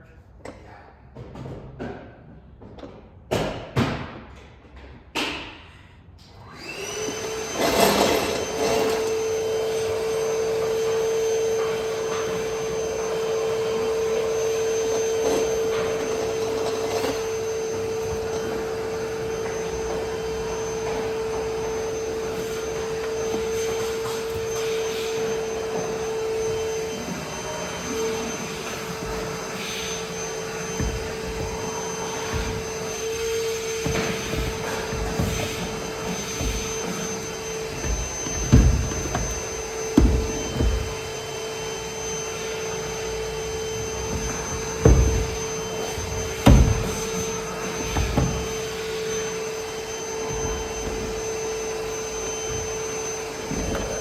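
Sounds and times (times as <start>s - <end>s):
heat gun running: 6.5s - 54.0s.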